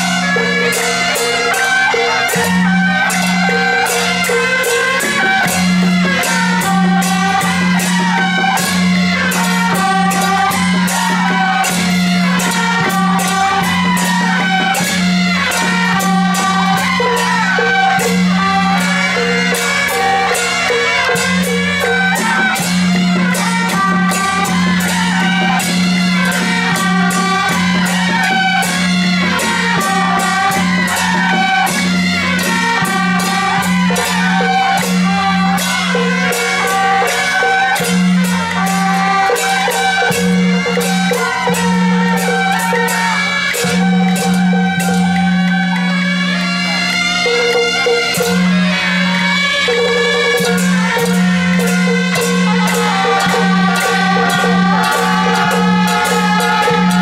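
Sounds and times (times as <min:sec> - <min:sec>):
fast percussion strokes: 0:00.0 - 0:57.0.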